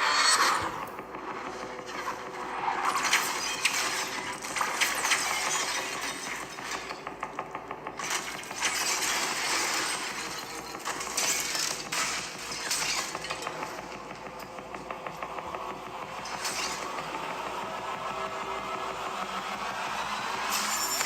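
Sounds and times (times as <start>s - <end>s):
metallic clanks and crashes: 0.3s - 17.2s.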